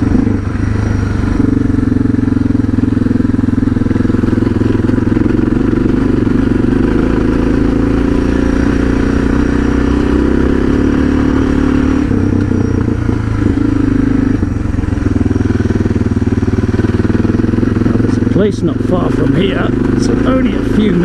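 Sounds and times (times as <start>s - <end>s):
motorcycle engine on dirt track: 0.0s - 21.0s.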